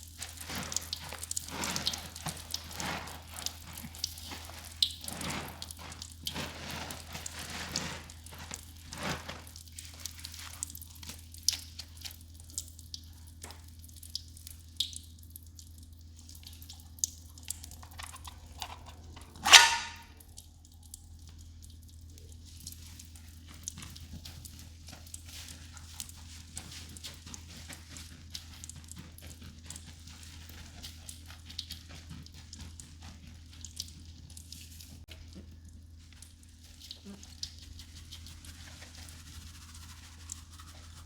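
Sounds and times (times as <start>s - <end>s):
drips: 0.0s - 41.0s
soapy sponges squelching: 0.0s - 41.0s.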